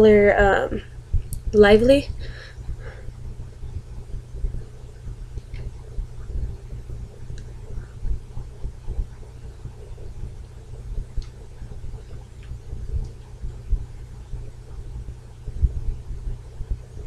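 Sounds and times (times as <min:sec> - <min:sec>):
low hum: 0:00.0 - 0:17.0
thumping rumble: 0:00.0 - 0:17.0.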